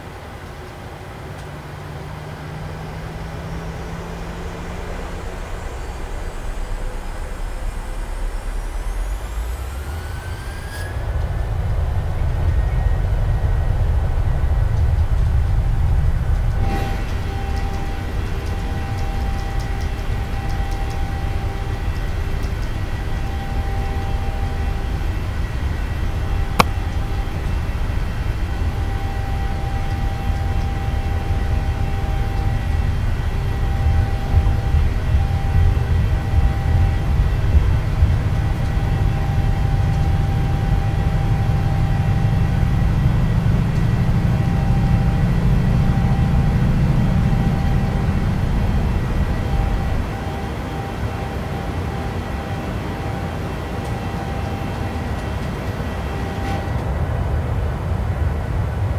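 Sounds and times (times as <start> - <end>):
jet engines at high thrust: 0.0 - 58.9.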